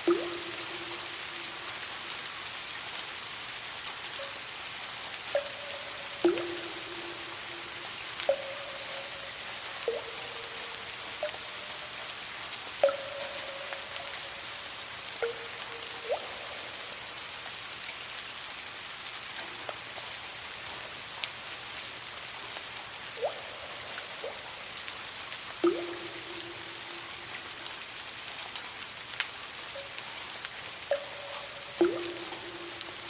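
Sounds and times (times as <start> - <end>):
soft rain hissing: 0.0 - 33.0
water drips plinking into water: 0.0 - 33.0.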